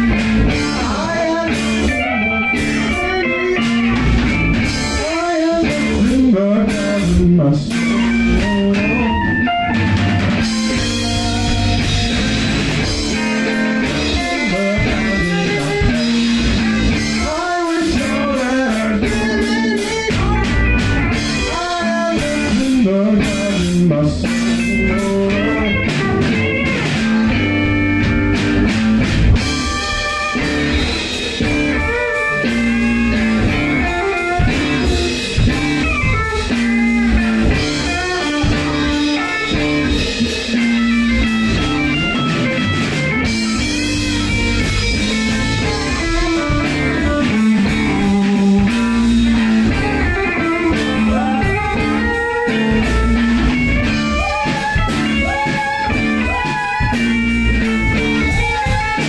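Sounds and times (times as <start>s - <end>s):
bass line: 0.0s - 59.0s
drums: 0.0s - 59.0s
electric guitar: 0.0s - 59.0s.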